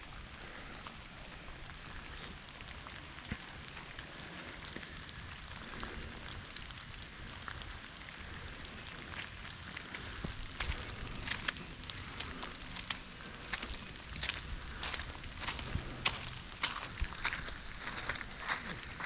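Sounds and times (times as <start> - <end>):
rain drops pattering: 0.0 - 19.0.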